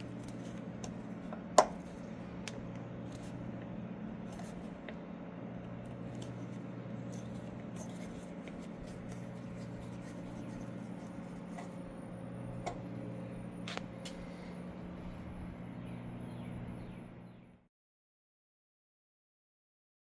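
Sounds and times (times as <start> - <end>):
low hum: 0.0 - 17.7.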